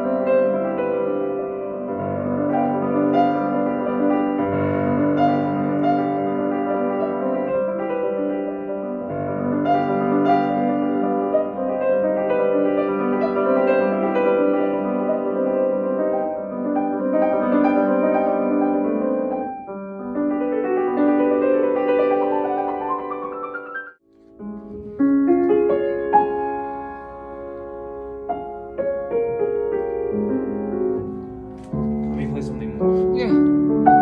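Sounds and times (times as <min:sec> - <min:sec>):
grand piano playing: 0:00.0 - 0:34.0.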